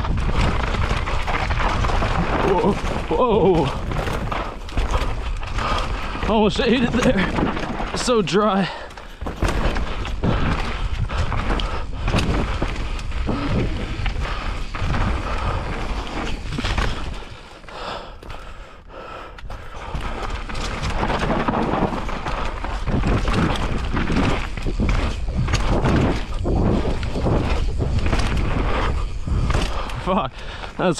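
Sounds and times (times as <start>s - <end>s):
wind rumbling on microphone: 0.0s - 18.5s, 19.4s - 30.9s
tyres rushing on loose dirt: 0.0s - 18.6s, 19.4s - 30.9s
bike knocking and rattling: 0.0s - 30.9s.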